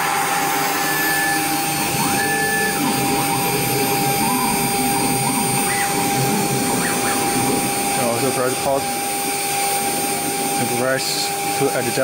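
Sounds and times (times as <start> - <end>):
axis motors rising tone: 0.0 - 11.7
router spindle whine and hiss: 0.0 - 12.0.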